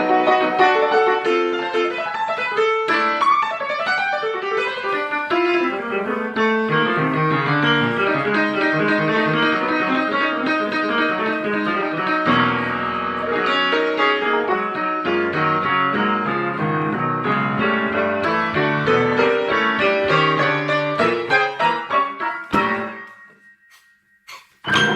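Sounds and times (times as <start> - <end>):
piano-led background music: 0.0 - 23.8.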